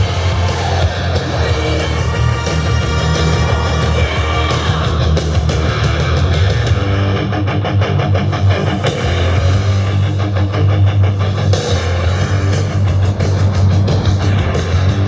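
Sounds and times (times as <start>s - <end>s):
heavy metal music with electric guitar: 0.0s - 15.0s.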